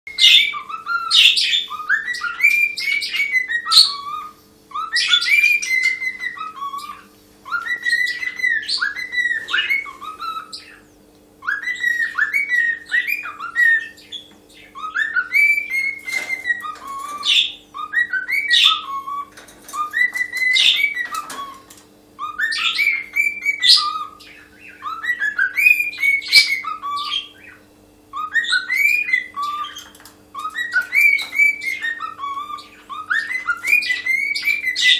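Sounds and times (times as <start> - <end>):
cockatiel whistling a melody: 0.1 - 34.9.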